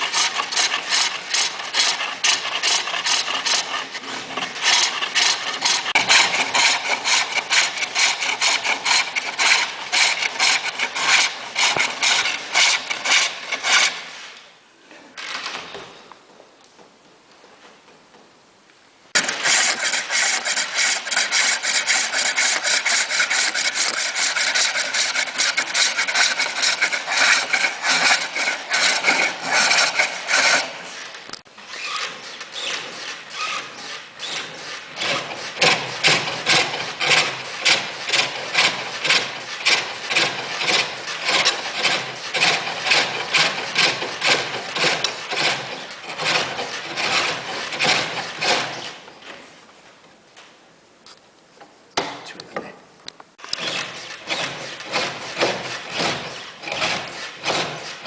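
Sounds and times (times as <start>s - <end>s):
lathe tool scraping workpiece: 0.0s - 14.4s, 19.2s - 49.1s, 53.4s - 58.0s.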